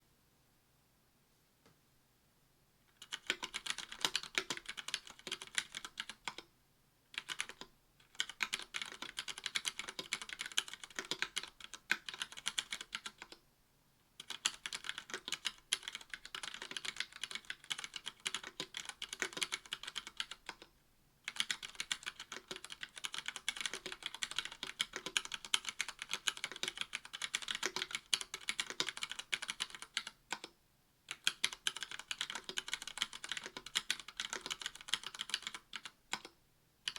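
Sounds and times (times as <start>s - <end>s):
fast typing on mechanical keyboard: 3.0s - 6.4s, 7.2s - 13.4s, 14.2s - 20.6s, 21.3s - 30.5s, 31.1s - 36.3s.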